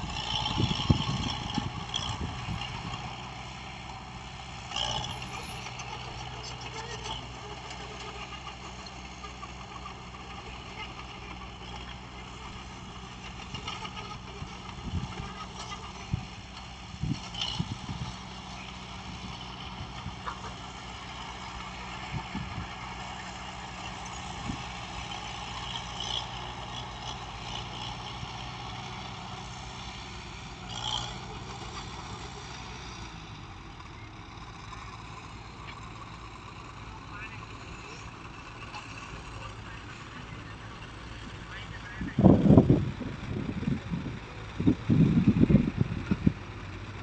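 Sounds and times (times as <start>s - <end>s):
diesel engine of heavy machinery: 0.0s - 47.0s.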